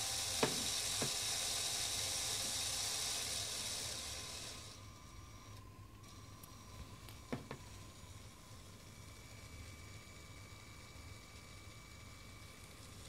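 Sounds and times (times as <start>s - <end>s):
toy train motor whirring: 0.0s - 13.0s.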